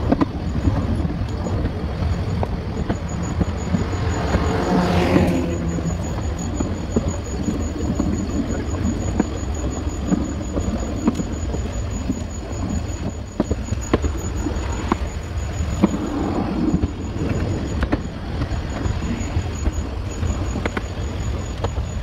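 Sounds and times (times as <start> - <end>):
train rumbling: 0.0 - 22.0
wheels clicking over rails: 0.0 - 22.0.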